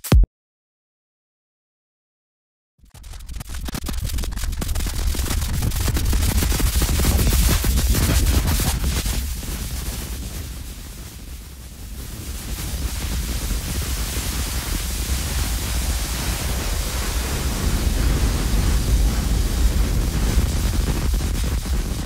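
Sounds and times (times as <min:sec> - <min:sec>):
heavy deep rumble: 0:04.0 - 0:22.0.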